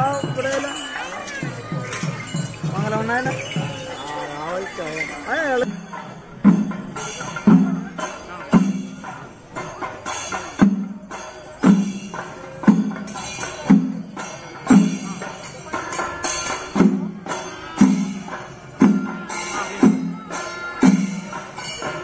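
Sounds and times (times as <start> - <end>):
ringing hand cymbals: 0.0 - 22.0
rolling drum strokes: 0.0 - 22.0
strong accented drum beat: 0.0 - 22.0.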